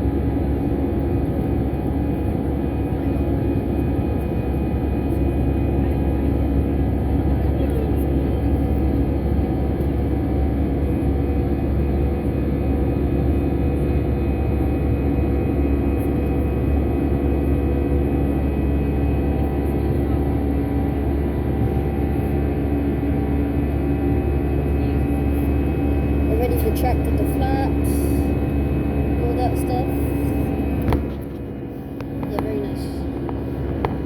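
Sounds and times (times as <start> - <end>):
jet engine cabin drone: 0.0 - 34.0.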